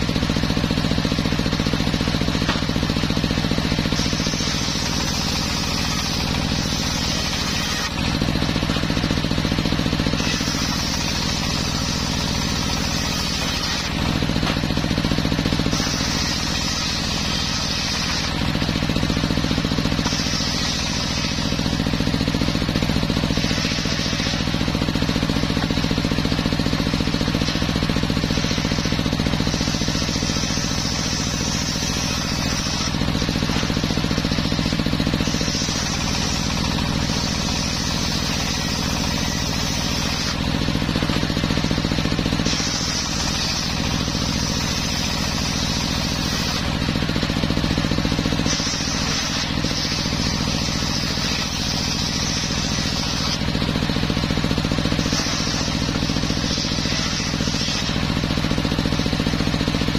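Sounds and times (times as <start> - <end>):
circular sawmill sawing log: 0.0 - 59.9.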